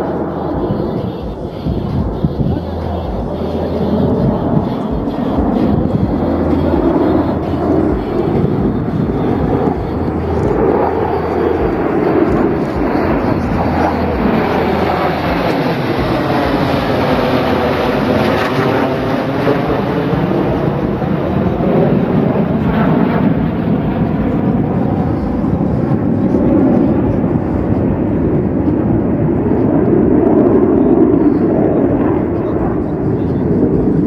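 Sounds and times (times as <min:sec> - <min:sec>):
fighter jets flying past: 0:00.0 - 0:34.0.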